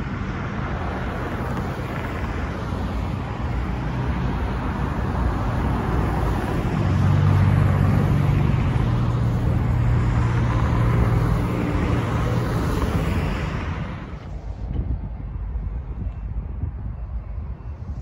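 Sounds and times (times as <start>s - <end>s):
cars passing: 0.0s - 18.0s
vehicle engine hum passing close: 0.0s - 18.0s.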